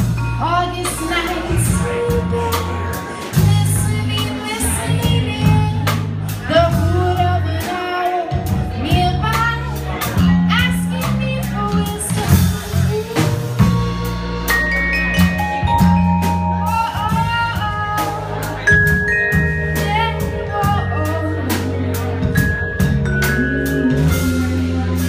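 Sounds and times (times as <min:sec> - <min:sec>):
drum kit beat: 0:00.0 - 0:25.0
live band playing: 0:00.0 - 0:25.0.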